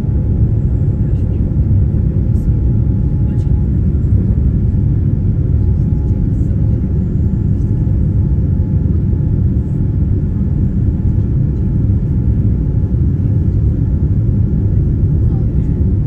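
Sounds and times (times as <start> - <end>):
airplane engines rumbling in cabin: 0.0 - 16.0.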